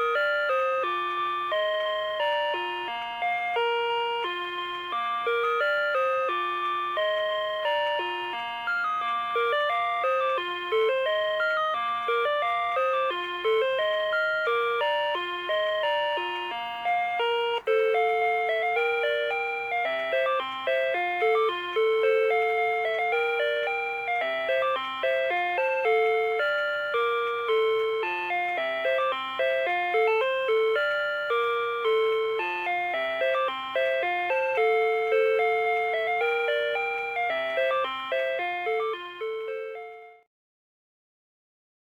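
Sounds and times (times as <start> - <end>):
electronic alarm clock melody: 0.0 - 40.3.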